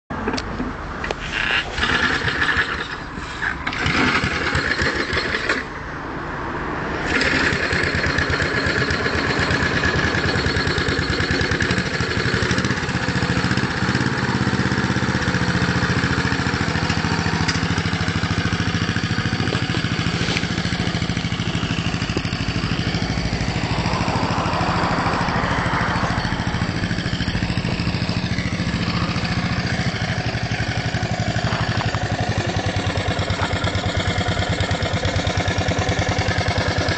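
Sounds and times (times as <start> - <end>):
lawn mower engine running: 0.2 - 6.0, 7.0 - 36.9.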